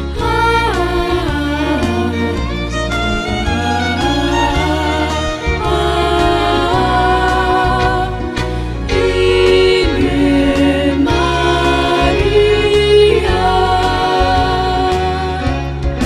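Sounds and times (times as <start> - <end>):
backing track with low bass: 0.0 - 16.0
female vocal trio singing a hymn: 0.0 - 16.0.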